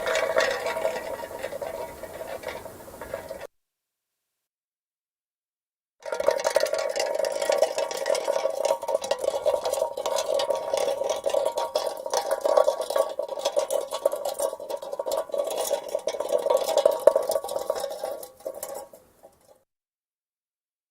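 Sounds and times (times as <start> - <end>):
can rolling over asphalt: 0.0 - 3.5, 6.0 - 19.6.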